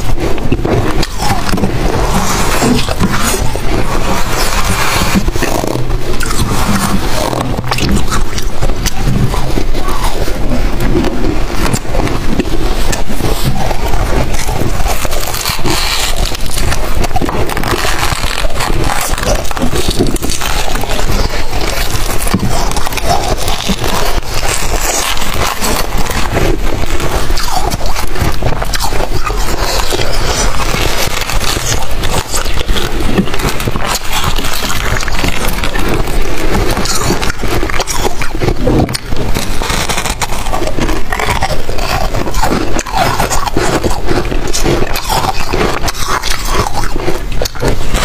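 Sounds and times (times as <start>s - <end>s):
frost crunching and crackling: 0.0s - 48.0s.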